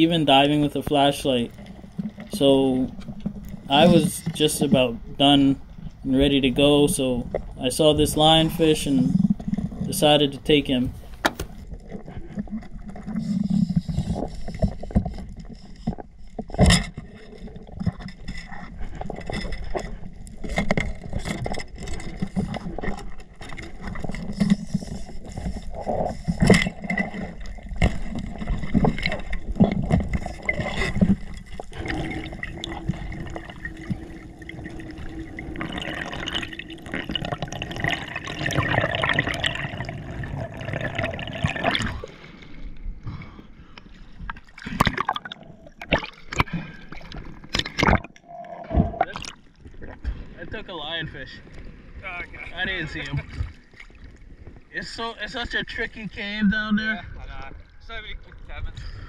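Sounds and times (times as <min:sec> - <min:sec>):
muffled underwater water rush: 0:00.0 - 0:59.0.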